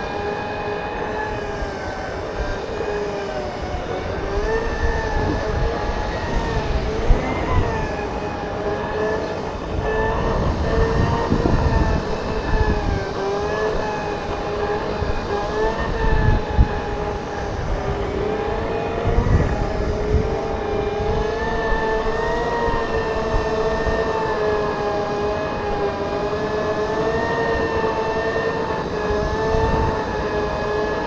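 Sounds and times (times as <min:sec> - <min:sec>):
electric motors whining: 0:00.0 - 0:31.0
wind rumble on microphone: 0:00.0 - 0:31.0.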